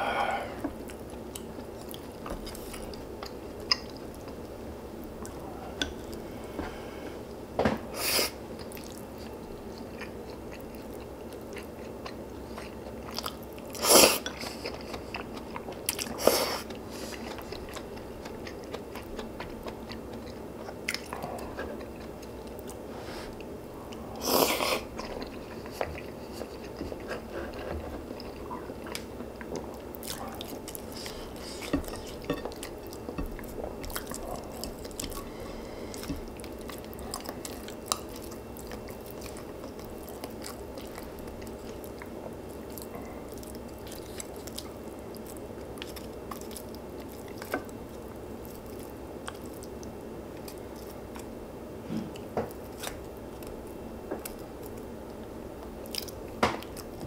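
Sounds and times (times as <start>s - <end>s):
person chewing food: 0.0s - 7.4s, 8.0s - 57.0s.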